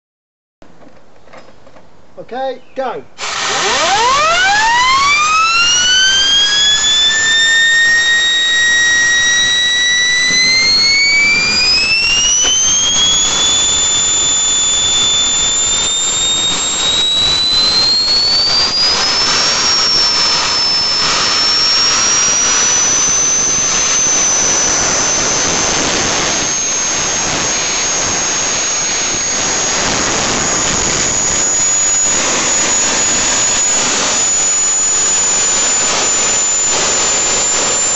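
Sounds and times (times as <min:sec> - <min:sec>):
jet engine roar and whine: 0:03.2 - 0:37.9.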